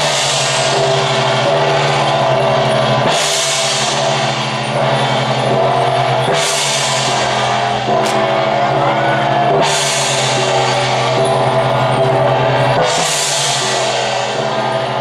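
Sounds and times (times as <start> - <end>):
cymbal crash: 0.0 - 15.0
drums and cymbals music: 0.0 - 15.0.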